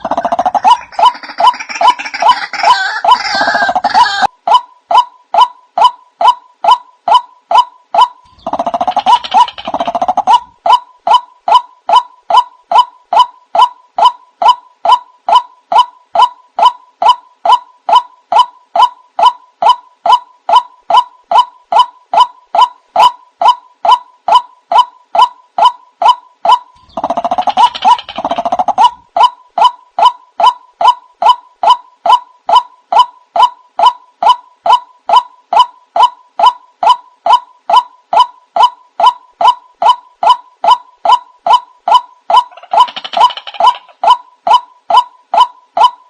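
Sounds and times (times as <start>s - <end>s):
bird croaking calls: 0.0s - 4.3s, 5.0s - 46.0s.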